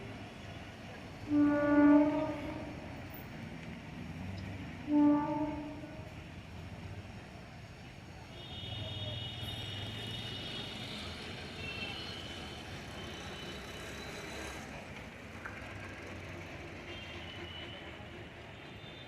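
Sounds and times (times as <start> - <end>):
train rumbling along track: 0.0 - 8.3, 10.0 - 19.0.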